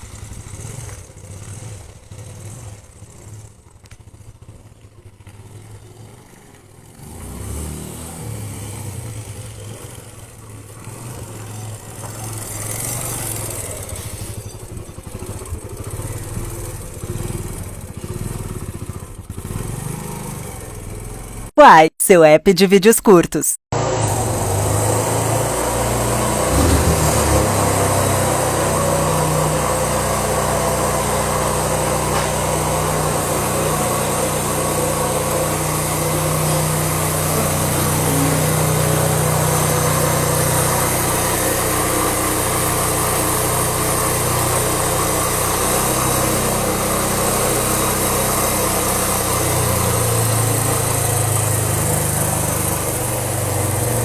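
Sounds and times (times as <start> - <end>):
motorcycle engine idling: 0.0 - 7.0, 9.1 - 21.5, 26.5 - 54.0.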